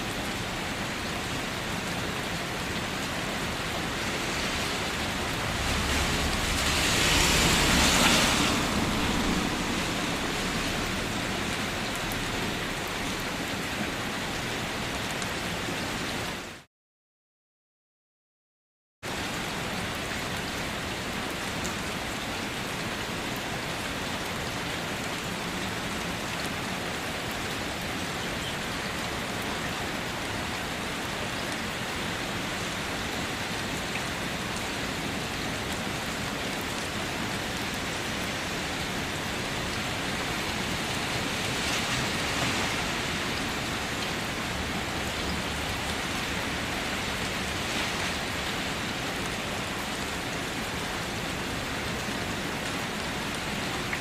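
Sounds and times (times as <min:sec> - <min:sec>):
steady rain falling: 0:00.0 - 0:16.7, 0:19.1 - 0:54.0.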